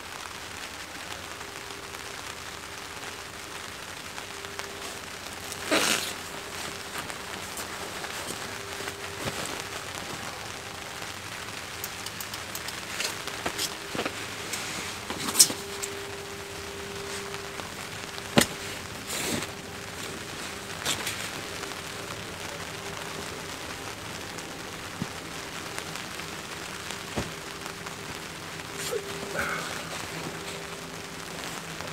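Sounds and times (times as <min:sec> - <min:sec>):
rain on a tarp: 0:00.0 - 0:31.9
sharp rain taps: 0:00.0 - 0:31.9.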